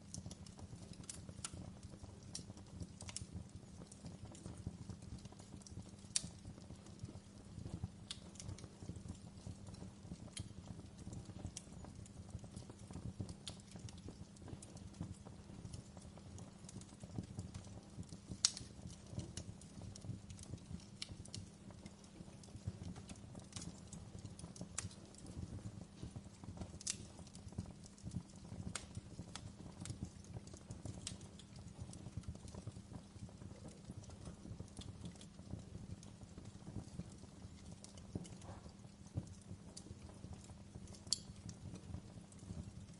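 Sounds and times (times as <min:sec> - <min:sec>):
fireplace fire crackling: 0:00.0 - 0:42.9.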